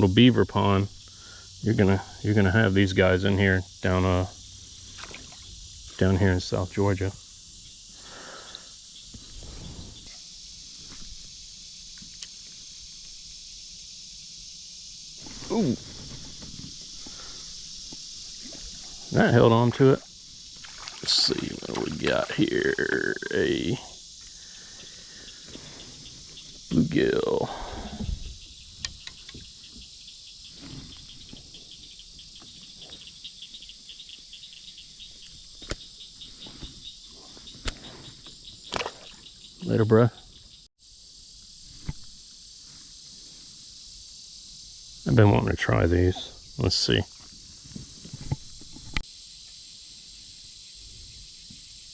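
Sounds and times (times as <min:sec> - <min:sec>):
chorus of crickets: 0:00.0 - 0:51.9.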